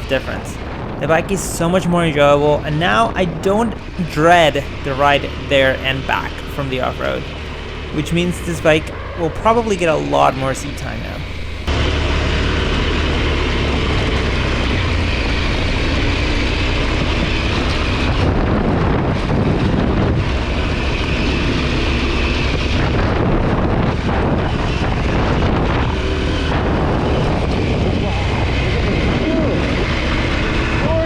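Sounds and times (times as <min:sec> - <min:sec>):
wind noise on microphone: 0:00.0 - 0:11.7, 0:12.7 - 0:31.0
motorcycle engine running: 0:00.0 - 0:31.0.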